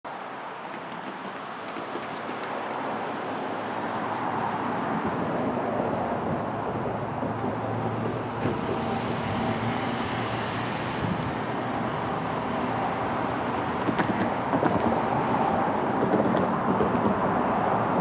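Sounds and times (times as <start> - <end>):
freight train rumble: 0.2 - 18.0
low engine hum: 1.8 - 18.0.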